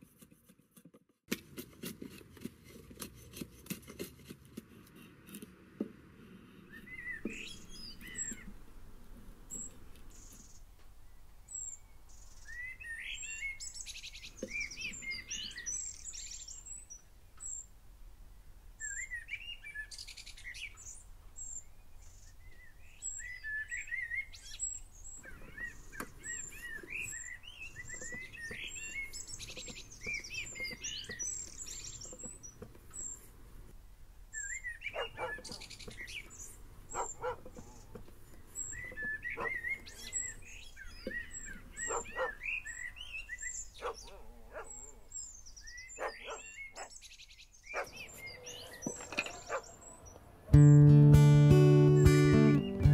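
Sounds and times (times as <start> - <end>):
songbirds chirping: 5.8 - 52.9.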